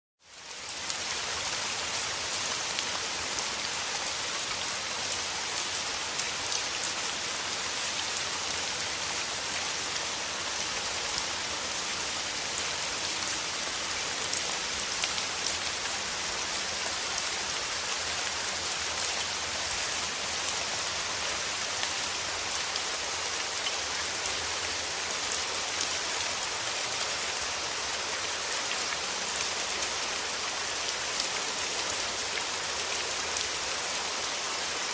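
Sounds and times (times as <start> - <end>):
rain on leaves and ground: 0.2 - 34.9.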